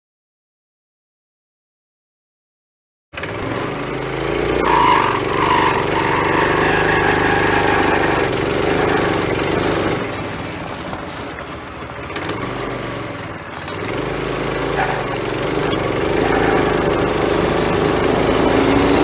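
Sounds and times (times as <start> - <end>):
go-kart engine running: 3.2 - 19.0.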